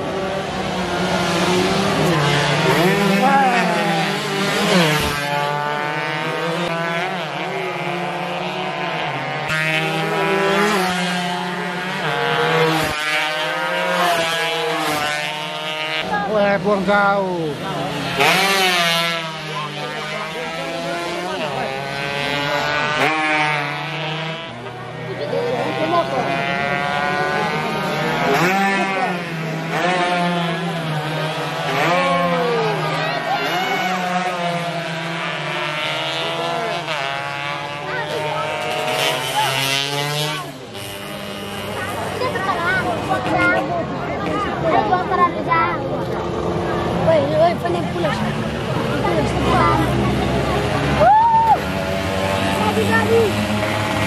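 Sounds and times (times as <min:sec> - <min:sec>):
motorcycles revving past: 0:00.0 - 0:54.0.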